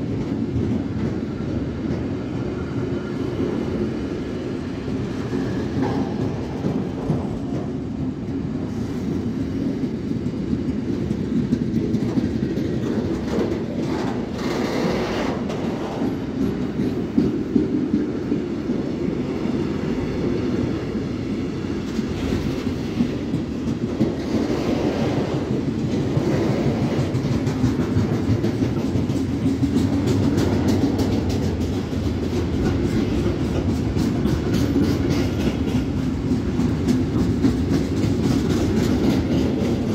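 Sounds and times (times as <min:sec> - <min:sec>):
freight train wheels rumbling on rails: 0:00.0 - 0:39.9
train clatter: 0:00.0 - 0:39.9.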